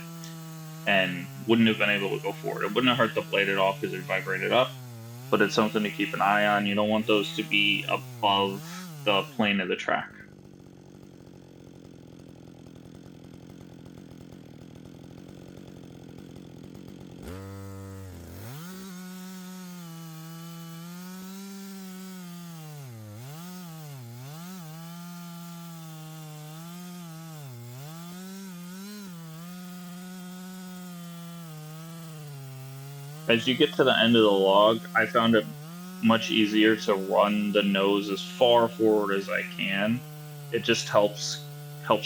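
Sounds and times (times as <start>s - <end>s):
chainsaw cutting through log: 0.0s - 42.0s.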